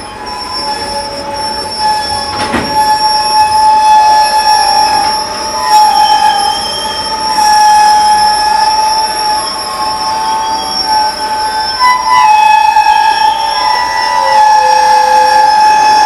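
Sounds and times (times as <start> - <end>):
train wheels squealing on rails: 0.0 - 16.0.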